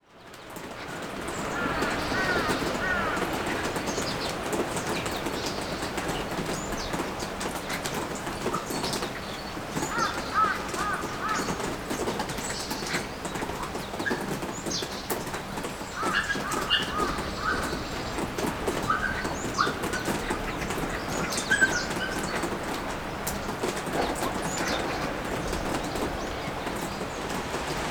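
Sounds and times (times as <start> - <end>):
steady rain falling: 0.0 - 27.9
birds chirping: 0.6 - 27.9.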